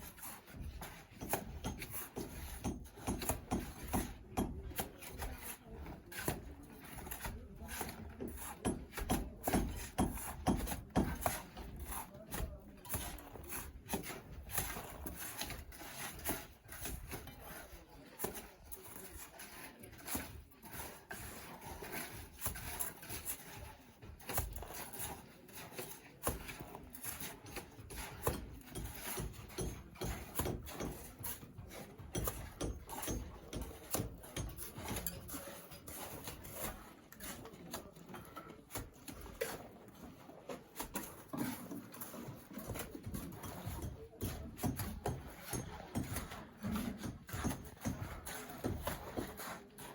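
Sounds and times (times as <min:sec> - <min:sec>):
trowel scraping and knocking: 0:00.0 - 0:49.9.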